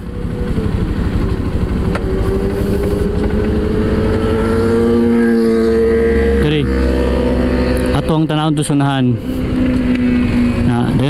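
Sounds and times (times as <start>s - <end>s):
road rumble: 0.0s - 11.0s
vehicle engine accelerating: 0.0s - 11.0s.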